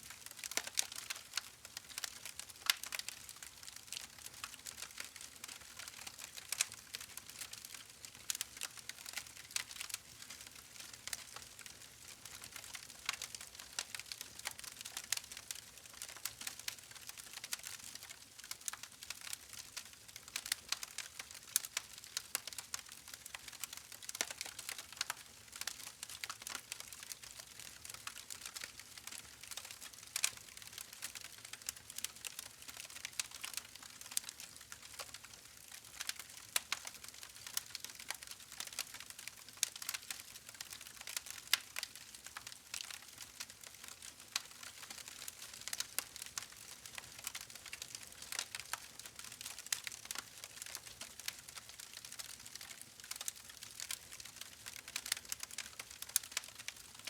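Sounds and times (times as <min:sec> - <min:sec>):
campfire crackling and popping: 0:00.2 - 0:57.0.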